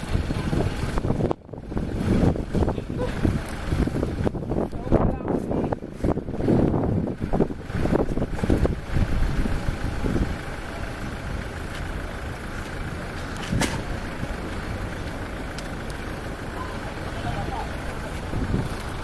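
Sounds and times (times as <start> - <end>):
road noise: 0.0 - 19.0
vehicle engine rumble: 0.0 - 19.0.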